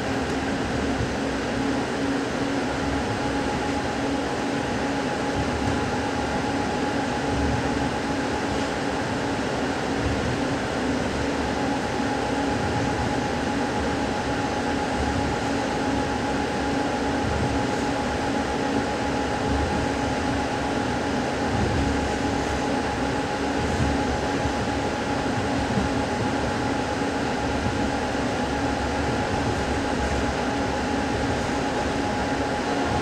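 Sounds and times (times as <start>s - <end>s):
constant hum: 0.0s - 33.0s
train rumble from inside coach: 0.0s - 33.0s.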